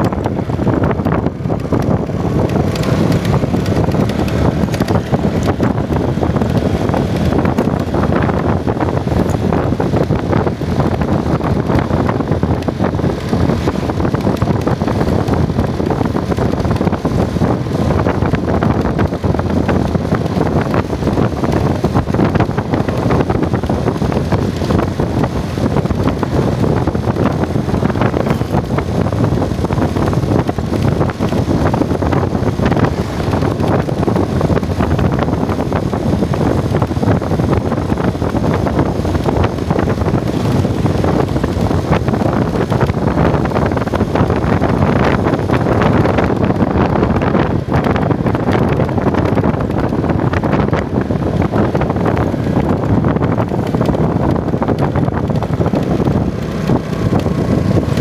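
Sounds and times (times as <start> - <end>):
vehicle rumble: 0.0 - 58.0
wind buffeting microphone: 0.0 - 58.0.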